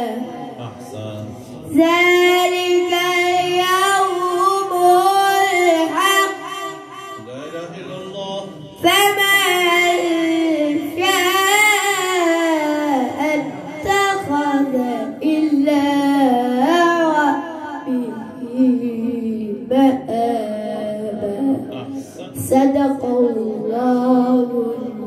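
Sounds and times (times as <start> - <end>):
boy reciting in melodic chant: 0.0 - 25.0.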